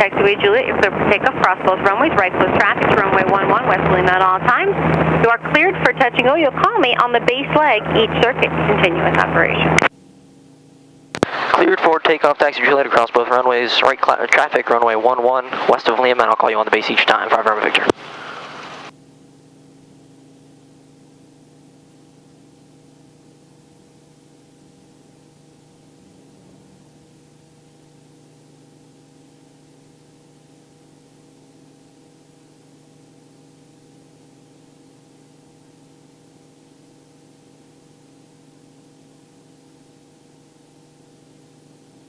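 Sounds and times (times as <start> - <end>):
faint helicopter hum: 0.0 - 42.0.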